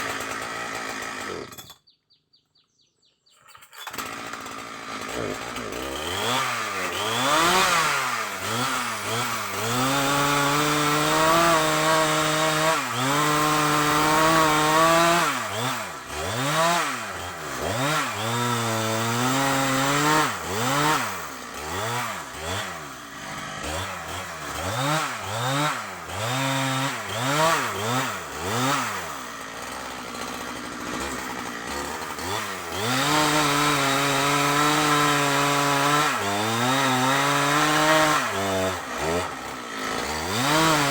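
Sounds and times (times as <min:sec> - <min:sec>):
chainsaw revving: 0:00.0 - 0:01.8, 0:03.8 - 0:40.9.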